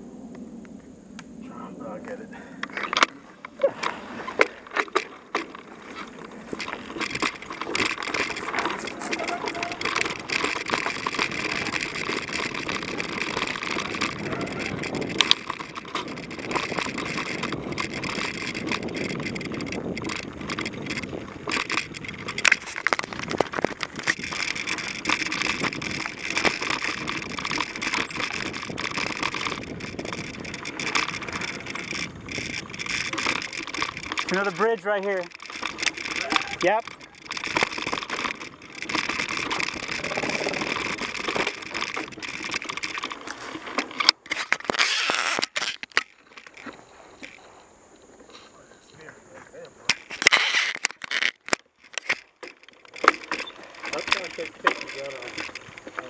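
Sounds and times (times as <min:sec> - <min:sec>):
bike tyres rolling on dirt: 0:00.0 - 0:56.0
bike rattling and clicking: 0:02.3 - 0:56.0.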